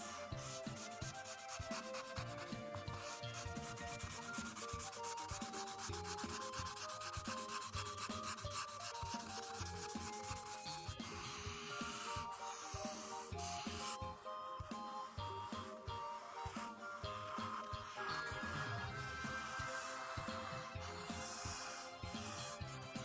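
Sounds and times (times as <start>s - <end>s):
marker scratching on paper: 0.0s - 14.0s, 14.8s - 23.0s
soft background music: 0.0s - 23.0s.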